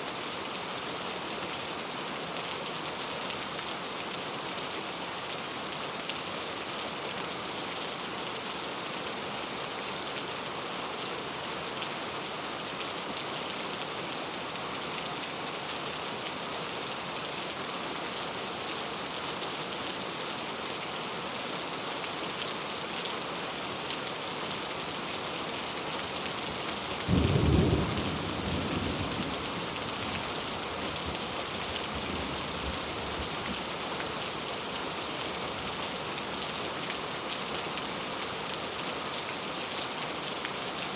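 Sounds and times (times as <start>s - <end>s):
rain falling on a road: 0.0s - 40.9s.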